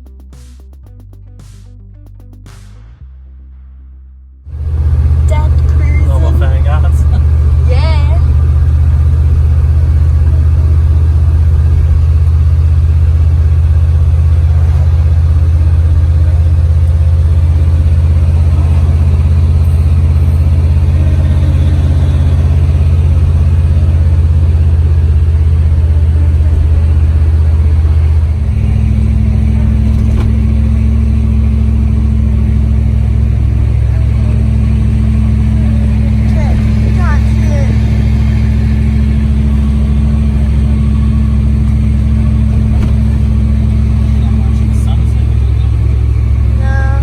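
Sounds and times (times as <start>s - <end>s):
car engine droning: 0.0s - 47.0s.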